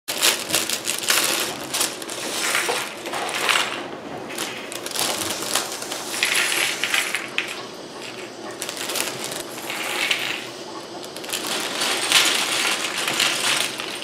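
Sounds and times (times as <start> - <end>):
plastic pieces clattering on table: 0.1 - 10.5, 11.1 - 14.0
plastic bag crinkling: 0.1 - 14.0.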